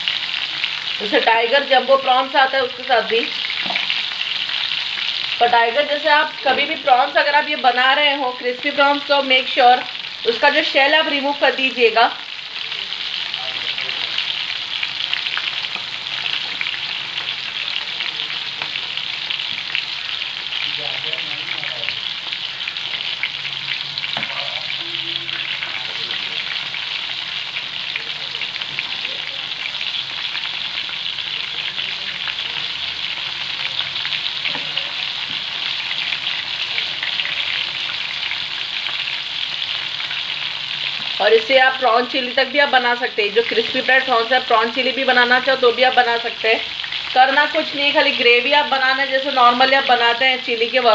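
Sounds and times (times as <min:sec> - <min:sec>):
prawns deep-frying in hot oil: 0:00.0 - 0:50.9.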